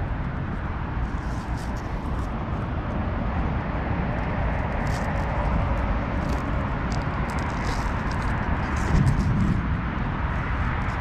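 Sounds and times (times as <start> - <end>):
road noise: 0.0 - 11.0
wind rumble on microphone: 0.0 - 11.0.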